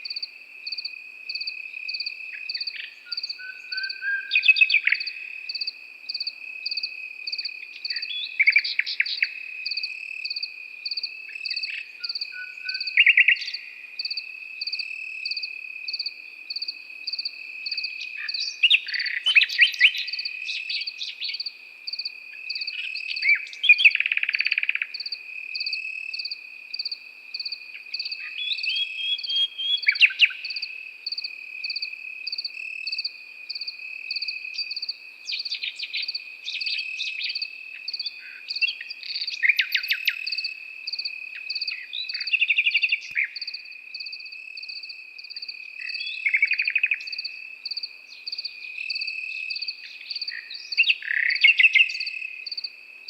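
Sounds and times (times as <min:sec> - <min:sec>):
nightingale singing: 0:00.0 - 0:52.8
cricket pulsing chirp: 0:00.0 - 0:53.0.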